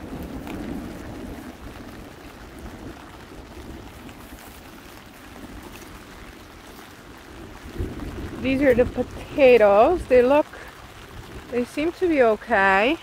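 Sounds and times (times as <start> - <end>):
steady outdoor hiss: 0.0 - 13.0
wind rumbling on microphone: 0.0 - 13.0.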